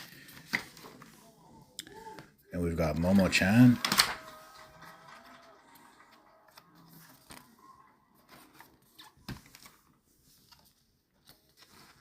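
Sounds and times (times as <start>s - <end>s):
faint paper rustles: 0.0s - 12.0s.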